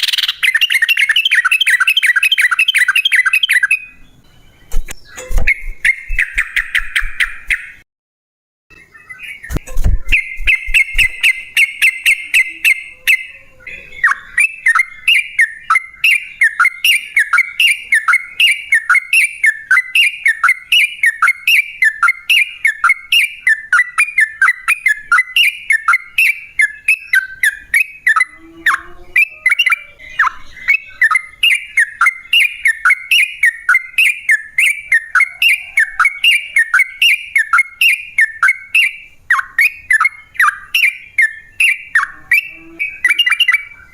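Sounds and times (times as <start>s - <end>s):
bird calling with chattering notes: 0.0s - 7.8s, 8.7s - 43.9s.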